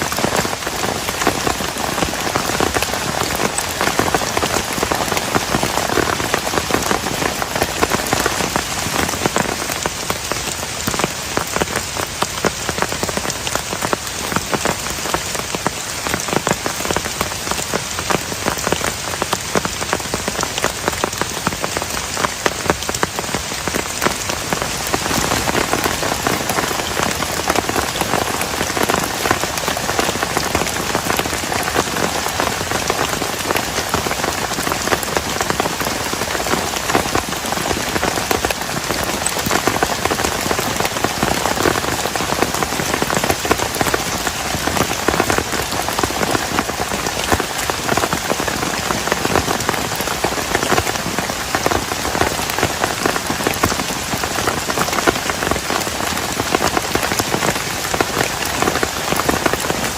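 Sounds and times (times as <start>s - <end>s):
heavy rain on plastic tarp: 0.0s - 59.9s.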